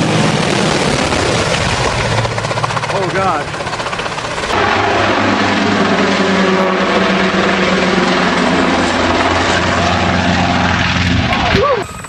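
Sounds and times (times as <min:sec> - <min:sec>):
helicopter engine hum: 0:00.0 - 0:12.0
helicopter rotor blades chopping: 0:00.0 - 0:12.0.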